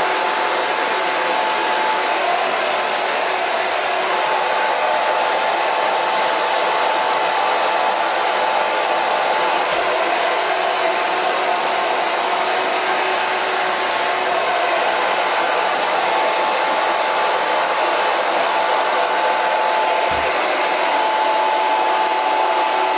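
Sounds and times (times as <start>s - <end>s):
hair dryer running: 0.0s - 22.9s.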